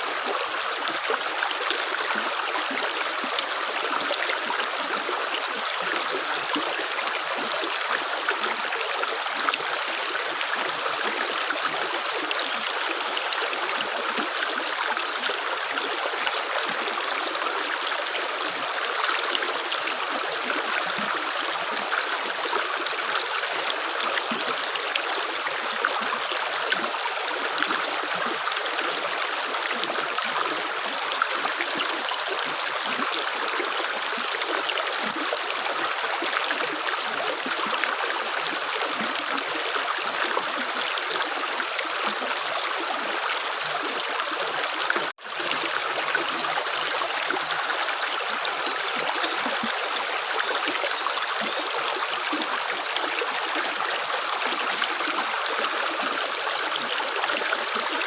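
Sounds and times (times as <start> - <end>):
stream trickling: 0.0 - 58.0.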